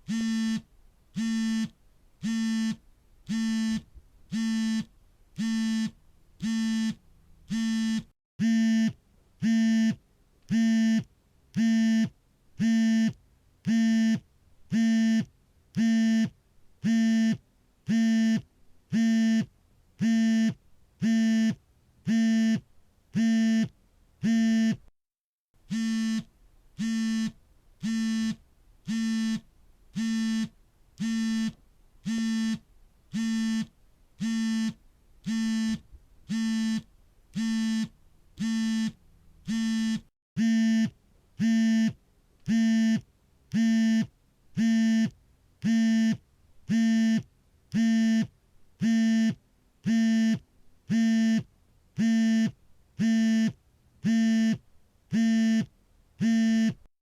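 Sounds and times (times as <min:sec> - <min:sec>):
phone vibration buzzing pulses: 0:00.0 - 0:22.6, 0:23.2 - 0:24.9, 0:25.7 - 0:56.9.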